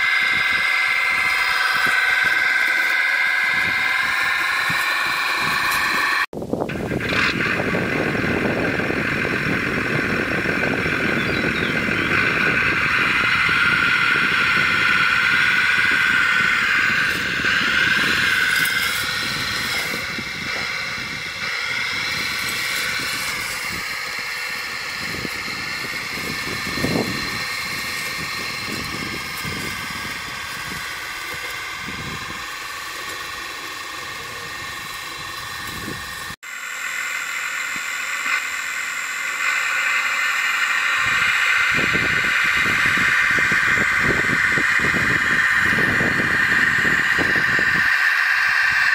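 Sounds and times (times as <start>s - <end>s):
model tractor engine sound: 0.0s - 48.9s.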